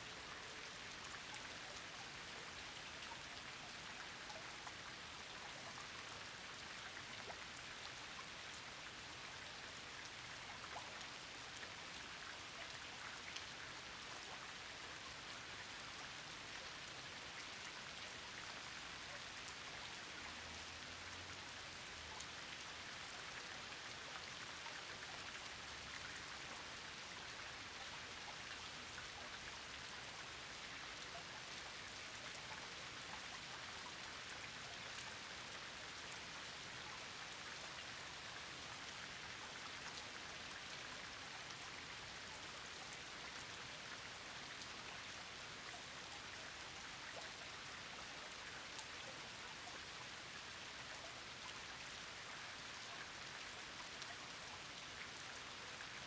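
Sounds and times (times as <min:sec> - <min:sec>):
steady rain patter: 0:00.0 - 0:56.0.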